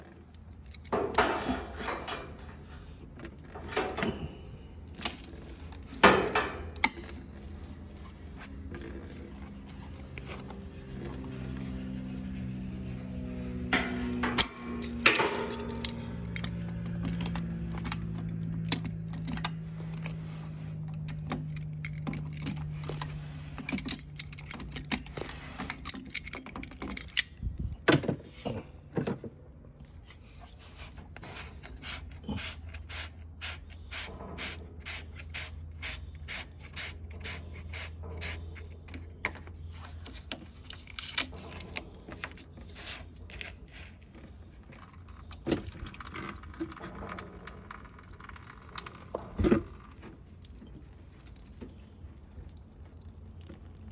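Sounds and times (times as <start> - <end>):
hand tools clicking and scraping metal: 0.0 - 29.2, 29.8 - 53.9.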